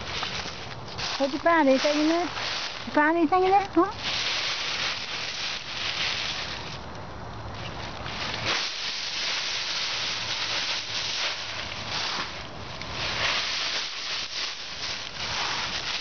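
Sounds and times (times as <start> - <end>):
dry leaves crunching and rustling: 0.0 - 16.0.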